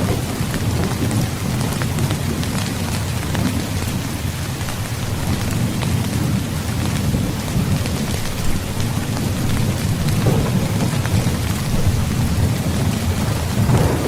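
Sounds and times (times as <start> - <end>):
heavy rain: 0.0 - 14.0
low thunder rumble: 0.0 - 14.0.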